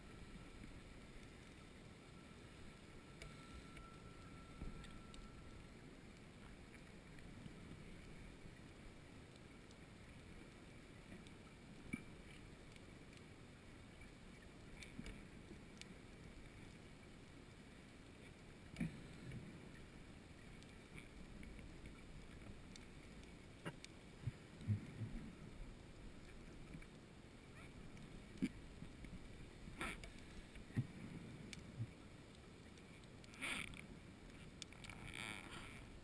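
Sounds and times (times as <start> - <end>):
low steady underwater hiss: 0.0 - 36.0.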